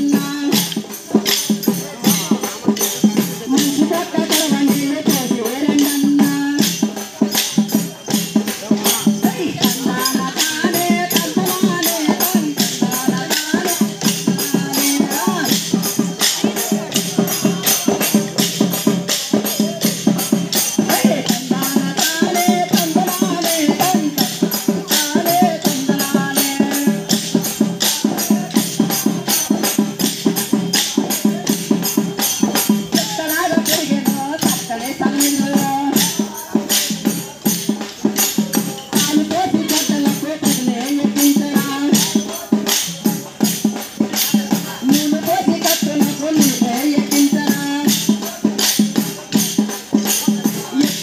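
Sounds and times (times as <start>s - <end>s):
folk song singing: 0.0s - 51.0s.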